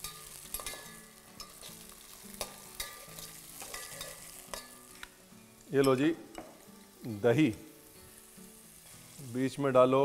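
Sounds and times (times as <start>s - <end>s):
peas frying in oil: 0.0s - 10.0s.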